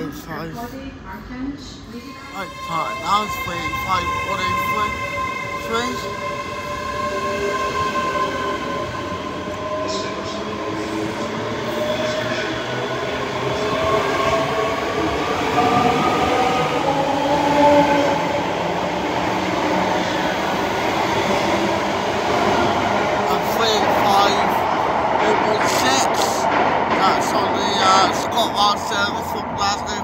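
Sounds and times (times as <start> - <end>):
train running noise: 0.0 - 30.0
train traction whine: 0.0 - 30.0.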